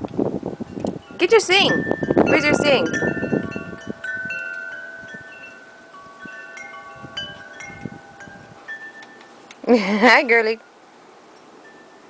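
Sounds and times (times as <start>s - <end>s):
wind chimes ringing: 0.5s - 12.0s.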